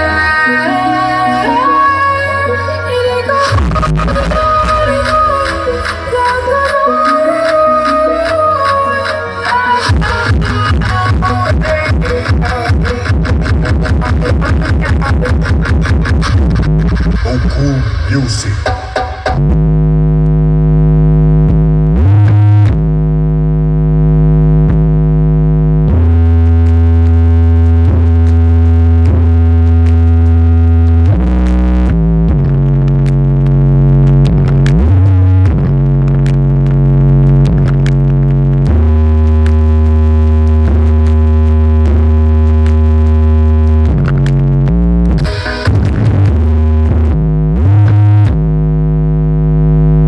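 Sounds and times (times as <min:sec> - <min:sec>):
electronic music with deep synth bass: 0:00.0 - 0:50.0.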